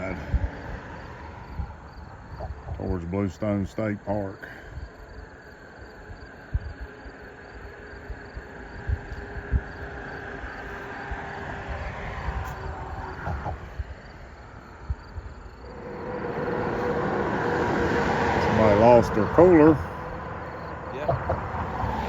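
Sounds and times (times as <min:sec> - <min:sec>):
high insect trill: 0:00.0 - 0:22.0
road traffic: 0:00.0 - 0:22.0
vehicle approaching: 0:00.0 - 0:22.0.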